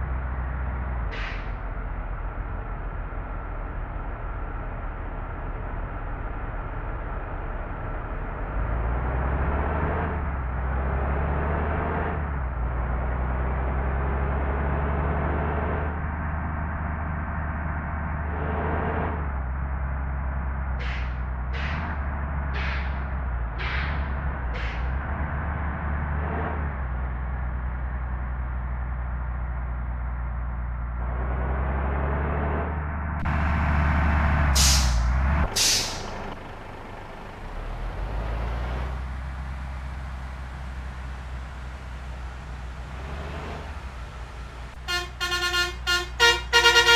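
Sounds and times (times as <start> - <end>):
bus engine rumbling: 0.0 - 46.9
road noise: 0.0 - 46.9.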